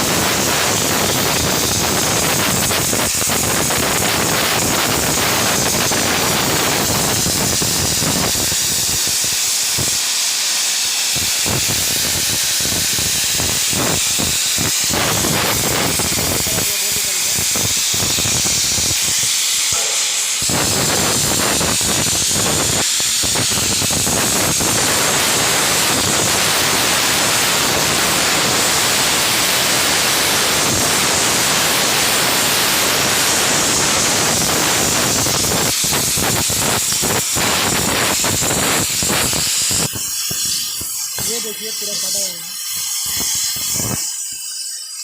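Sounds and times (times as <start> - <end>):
crackles: 0.0 - 45.0
loud steady hissing: 0.0 - 45.0.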